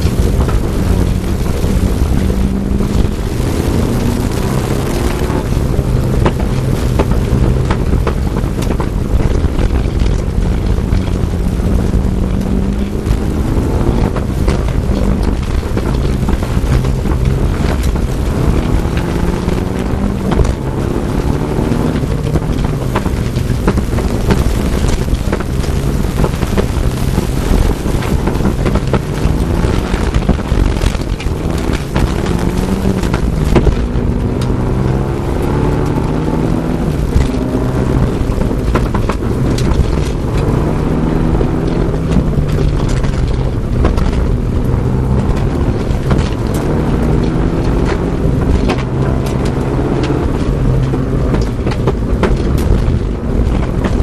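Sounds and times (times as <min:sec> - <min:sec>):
gravel rattling against car: 0:00.0 - 0:54.0
turbocharged car engine revving: 0:00.0 - 0:54.0.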